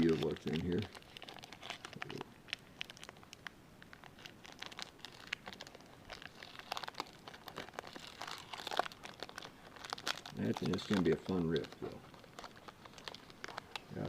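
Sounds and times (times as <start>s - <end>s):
plastic wrapper crinkling and tearing: 0.0s - 14.0s.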